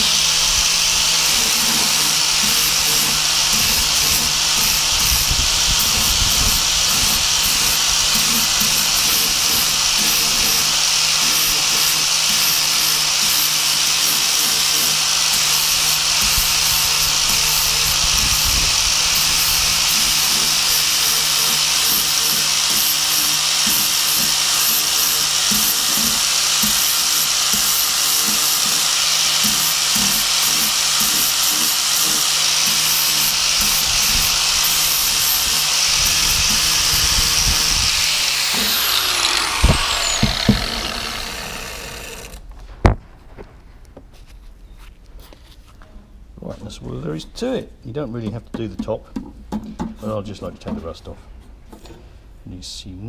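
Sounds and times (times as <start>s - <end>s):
angle grinder grinding steel: 0.0s - 42.5s.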